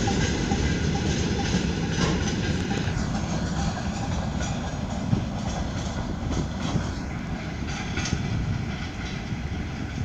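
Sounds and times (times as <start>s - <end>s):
freight train rumbling past: 0.0s - 10.0s.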